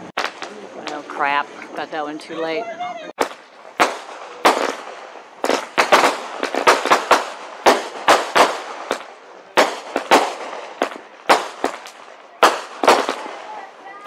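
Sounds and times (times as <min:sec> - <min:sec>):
fireworks bangs and pops: 0:00.0 - 0:01.2, 0:03.2 - 0:14.0.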